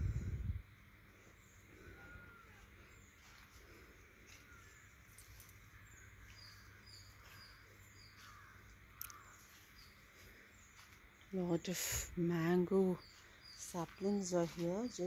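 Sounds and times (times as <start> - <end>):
faint outdoor ambience: 0.0 - 15.0
small bird chirping: 1.3 - 15.0.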